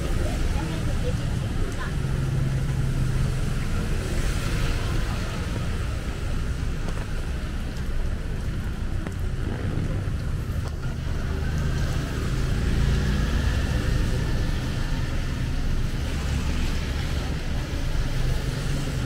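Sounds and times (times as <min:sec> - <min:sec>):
low engine rumble: 0:00.0 - 0:19.0
rain and wet tyres hiss: 0:00.0 - 0:19.0
vehicles passing: 0:00.0 - 0:19.0.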